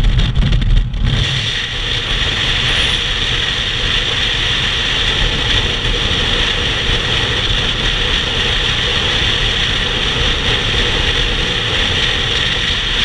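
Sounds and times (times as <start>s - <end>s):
motorcycle engine drone: 0.0s - 13.0s
wind rushing across microphone: 0.0s - 13.0s.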